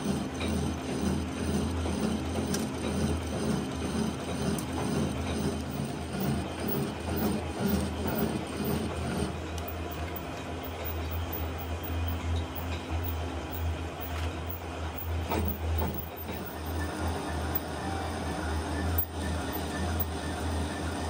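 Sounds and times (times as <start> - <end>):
metal lathe running: 0.0 - 21.0.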